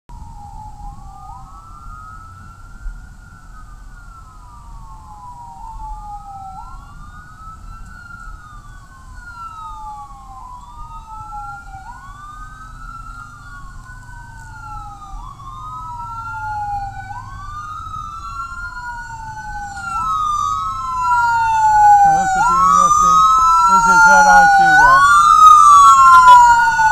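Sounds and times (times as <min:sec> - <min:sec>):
low rumble of engines and traffic: 0:00.1 - 0:26.9
sirens wailing: 0:00.1 - 0:26.9.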